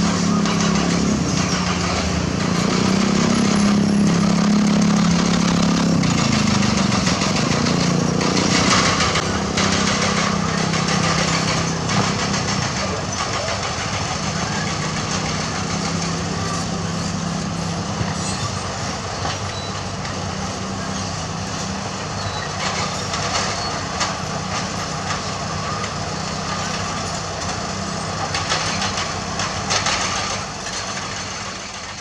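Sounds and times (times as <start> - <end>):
diesel engine droning: 0.0 - 32.0
metallic clanks and rattles: 0.1 - 20.2, 21.9 - 32.0.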